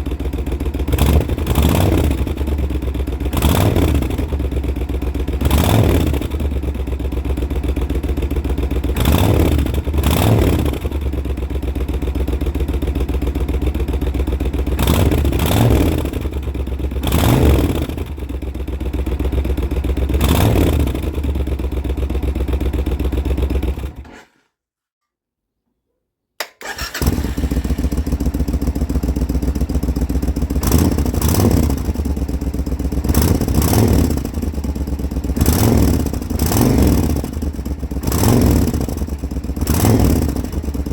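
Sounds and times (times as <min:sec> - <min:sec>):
motorcycle engine idling: 0:00.0 - 0:24.0, 0:26.6 - 0:40.9
motorcycle engine revving: 0:00.0 - 0:24.2, 0:26.6 - 0:40.9.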